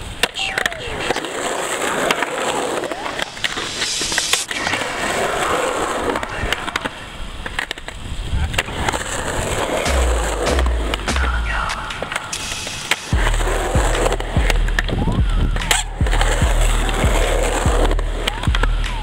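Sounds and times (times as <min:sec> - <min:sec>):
skateboard clacks: 0:00.0 - 0:19.0
skateboard wheels rolling on pavement: 0:00.0 - 0:19.0.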